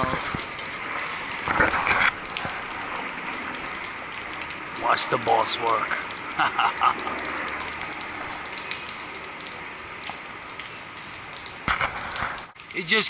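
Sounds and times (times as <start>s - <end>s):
water splashing and falling: 0.0s - 13.0s.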